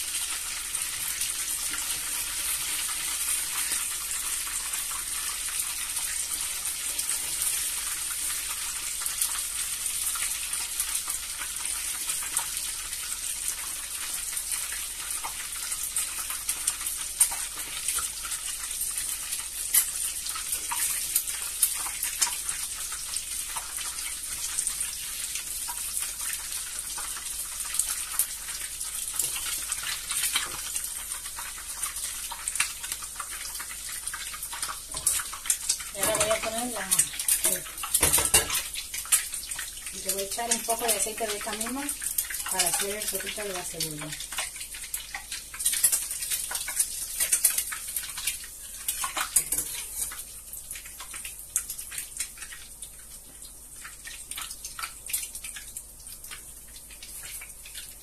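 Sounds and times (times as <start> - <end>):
oil sizzling in a frying pan: 0.0 - 58.0
small crackles and pops: 0.0 - 58.0.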